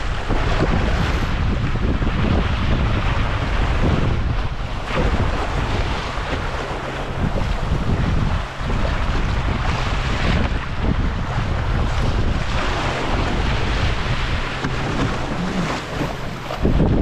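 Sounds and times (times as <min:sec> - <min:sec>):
water splashing along boat hull: 0:00.0 - 0:17.0
wind buffeting microphone: 0:00.0 - 0:17.0.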